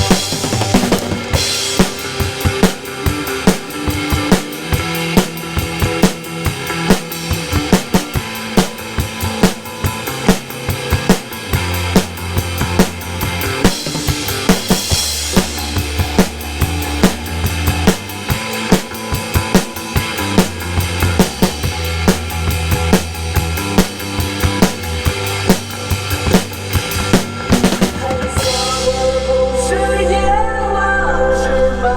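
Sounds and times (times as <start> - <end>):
drum kit beat: 0.0 - 29.7
pop backing track: 0.0 - 31.9.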